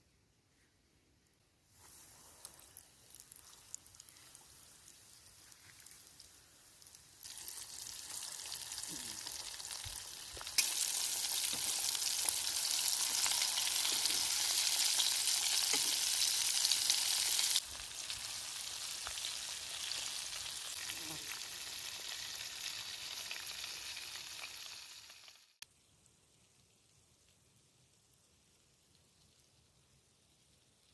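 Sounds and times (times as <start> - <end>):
chicken frying in hot oil: 2.0 - 30.9.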